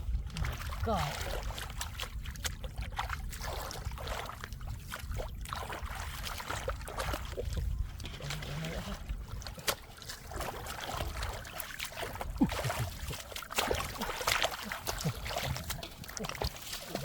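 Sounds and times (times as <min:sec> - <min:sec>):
shallow water splashing: 0:00.0 - 0:17.0.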